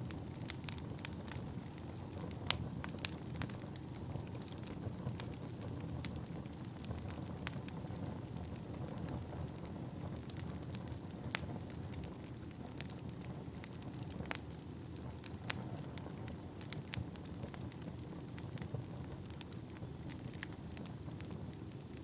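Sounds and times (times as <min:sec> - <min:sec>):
burning logs crackling and popping: 0:00.0 - 0:22.0
fire flames rumbling: 0:00.0 - 0:22.0.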